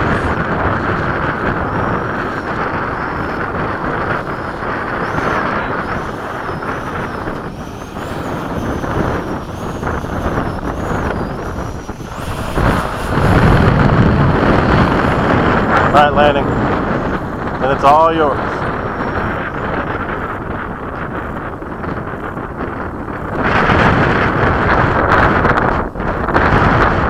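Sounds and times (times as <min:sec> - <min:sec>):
model jet fan whine: 0:00.0 - 0:27.0
wind noise on microphone: 0:00.0 - 0:27.0.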